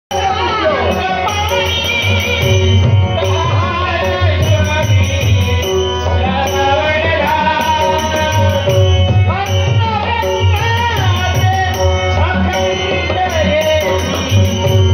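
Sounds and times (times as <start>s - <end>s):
held bending melody: 0.1s - 14.9s.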